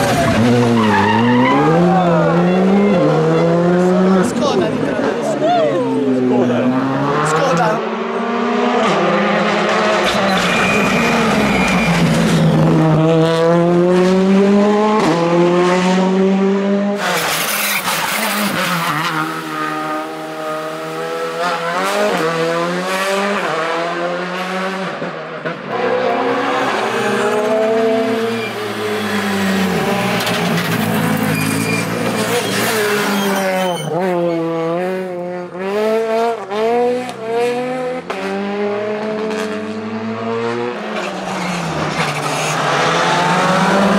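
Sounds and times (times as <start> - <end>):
rally car engines revving hard: 0.0 - 43.9.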